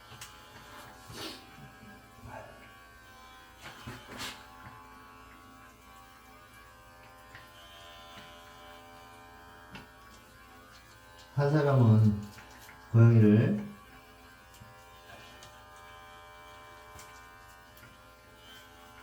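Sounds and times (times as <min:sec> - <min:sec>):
electric hair clippers buzzing: 0:00.0 - 0:19.0.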